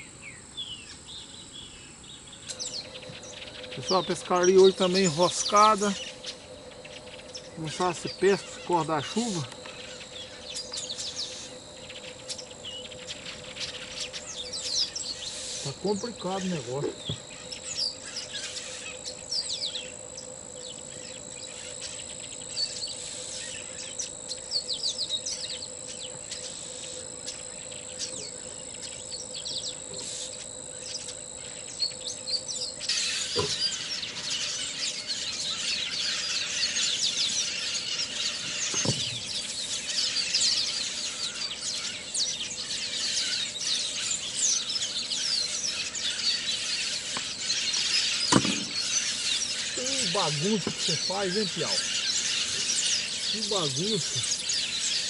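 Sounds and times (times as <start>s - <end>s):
birds chirping: 0.0s - 55.0s
high-pitched insect drone: 0.0s - 55.0s.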